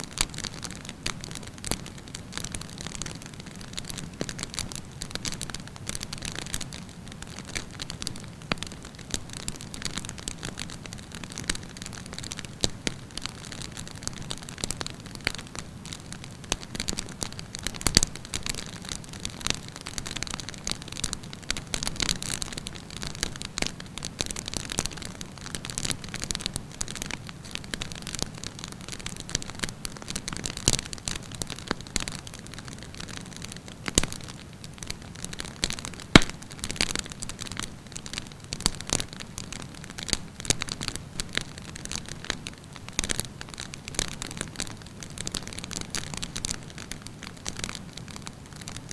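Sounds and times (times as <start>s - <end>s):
campfire crackling and popping: 0.1s - 48.9s.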